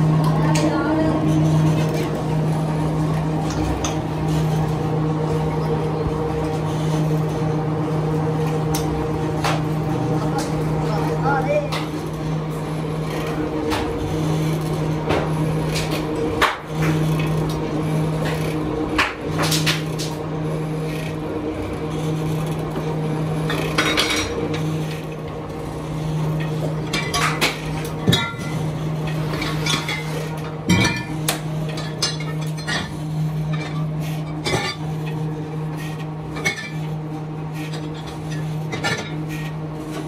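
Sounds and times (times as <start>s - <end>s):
electric motor humming: 0.0s - 40.0s.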